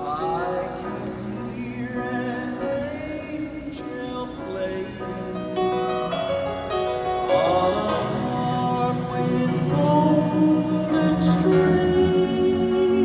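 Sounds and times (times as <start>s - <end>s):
male quartet singing in harmony: 0.0s - 13.0s
piano accompaniment: 0.0s - 13.0s.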